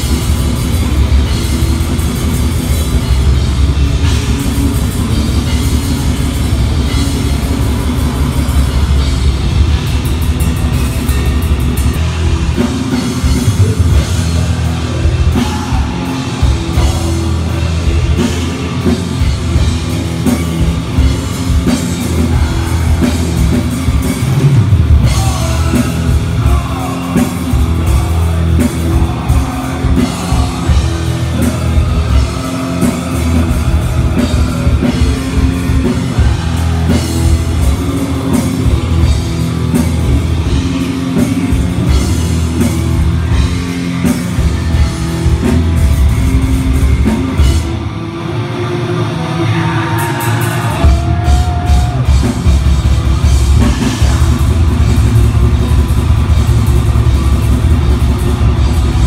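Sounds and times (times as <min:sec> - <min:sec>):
distorted electric guitars: 0:00.0 - 0:59.0
pounding drum kit: 0:00.0 - 0:59.0.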